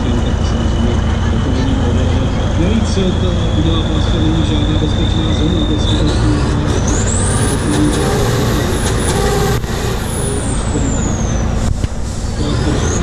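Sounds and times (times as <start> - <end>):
high whine: 0.0 - 13.0
truck diesel engine labouring: 0.0 - 13.0.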